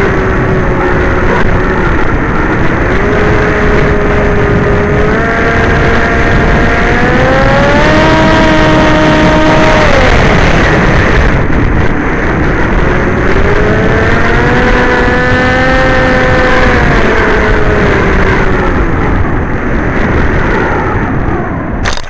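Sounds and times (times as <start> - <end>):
electric motor and propeller whining: 0.0 - 22.0
wind buffeting: 0.0 - 22.0.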